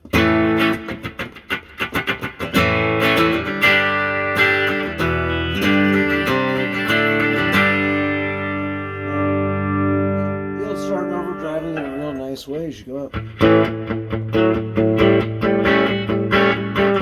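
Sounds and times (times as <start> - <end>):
clean electric guitar strumming: 0.0 - 17.0.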